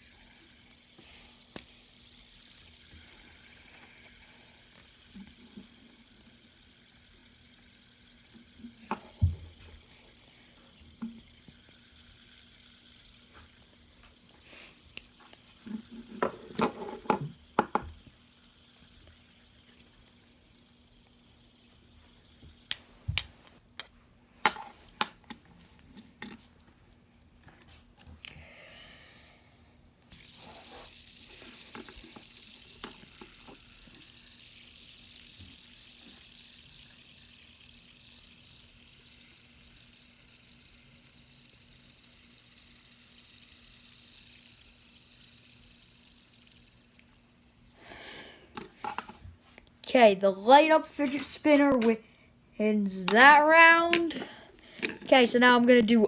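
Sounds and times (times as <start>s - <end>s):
fidget spinners whirring: 0.0s - 23.4s, 30.1s - 49.1s, 49.8s - 52.0s, 52.6s - 56.0s.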